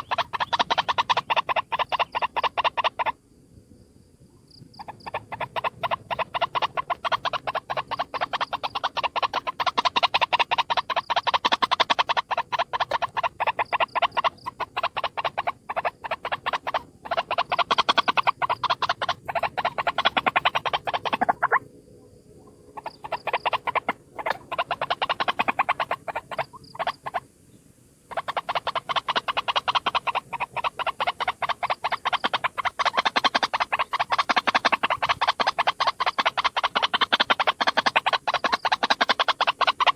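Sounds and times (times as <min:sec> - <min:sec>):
waterhen harsh croaking calls: 0:00.0 - 0:03.2, 0:04.8 - 0:21.7, 0:22.7 - 0:27.3, 0:28.1 - 0:39.9.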